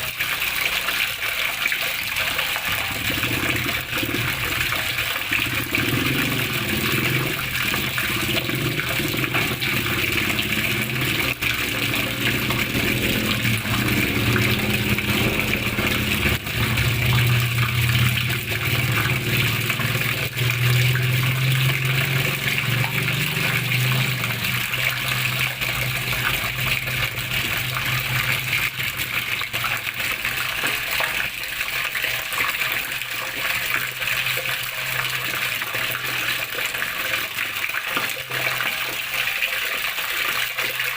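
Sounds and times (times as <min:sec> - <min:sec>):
water flowing and splashing: 0:00.0 - 0:40.9.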